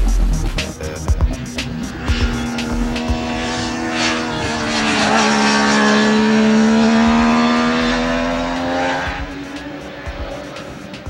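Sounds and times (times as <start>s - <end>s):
motorcycle engine at high revs: 1.2s - 11.0s.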